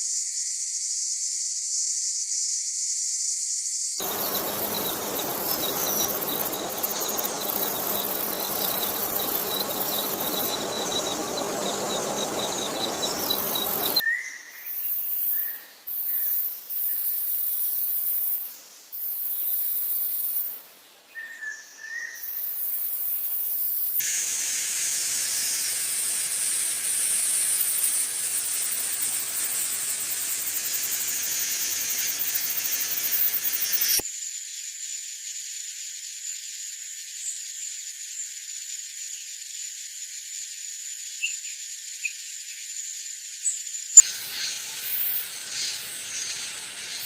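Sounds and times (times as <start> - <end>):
high-pitched insect trill: 0.0 - 20.7, 21.9 - 47.0
insects hissing: 0.0 - 21.0, 21.9 - 47.0.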